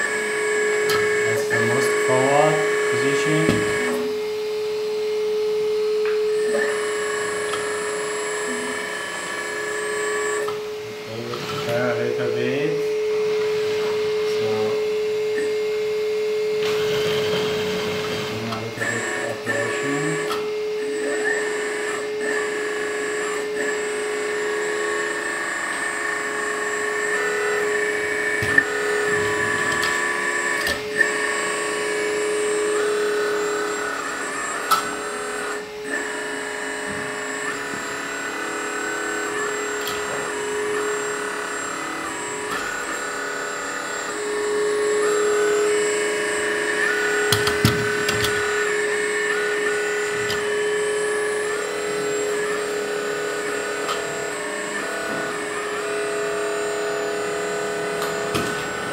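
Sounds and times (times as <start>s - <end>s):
hydraulic pump whining: 0.0s - 58.9s.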